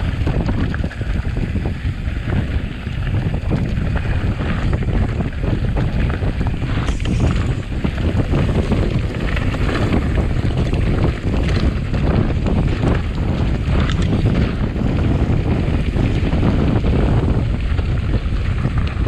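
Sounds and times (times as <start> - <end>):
bike rattling over rough ground: 0.0 - 19.0
wind rumbling on microphone: 0.0 - 19.0.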